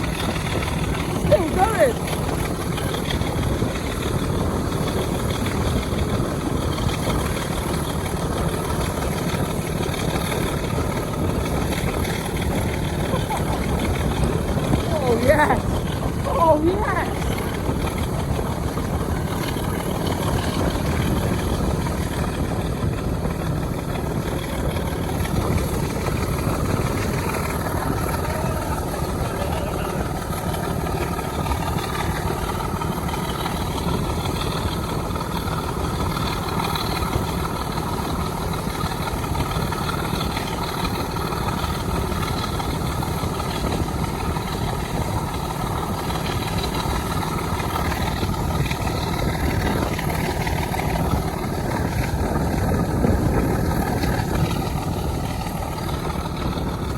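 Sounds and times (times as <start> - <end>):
diesel locomotive engine running: 0.0 - 56.9.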